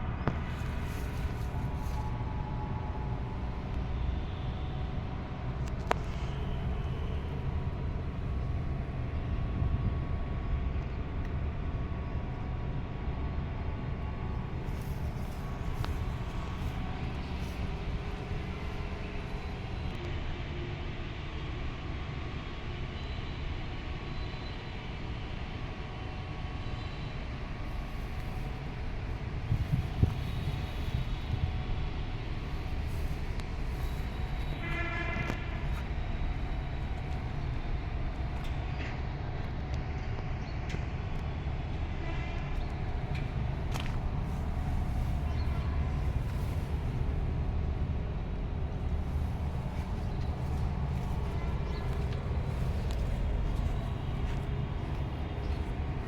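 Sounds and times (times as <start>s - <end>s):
truck engine running: 0.0s - 20.0s, 27.2s - 39.7s, 42.6s - 56.0s.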